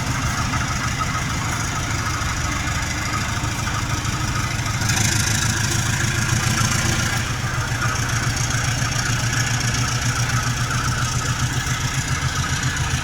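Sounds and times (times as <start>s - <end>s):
diesel locomotive engine throbbing: 0.0s - 13.0s.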